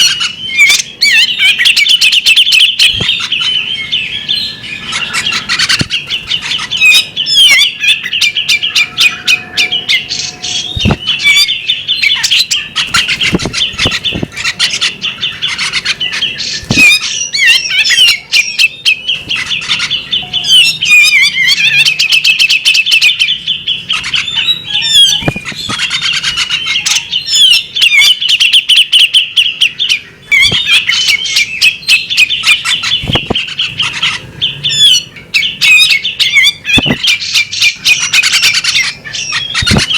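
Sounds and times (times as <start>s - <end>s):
bird singing trills: 0.0s - 39.9s.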